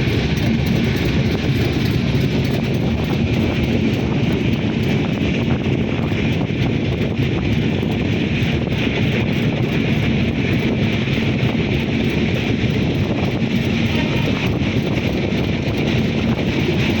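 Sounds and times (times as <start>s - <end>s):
train rumbling: 0.0s - 17.0s
wind noise on microphone: 0.0s - 17.0s.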